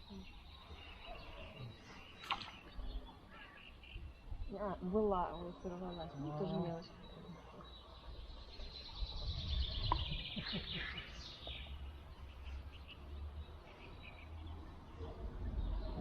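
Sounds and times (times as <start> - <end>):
songbird chirping trill: 0.0 - 16.0.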